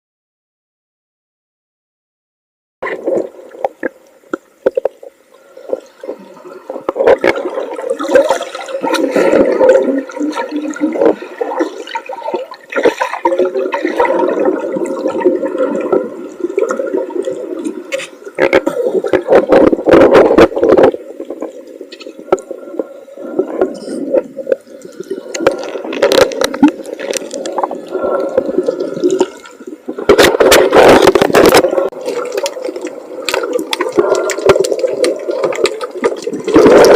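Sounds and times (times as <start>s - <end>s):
underwater churning and bubbling: 2.8s - 36.9s
water splashing: 2.8s - 36.9s.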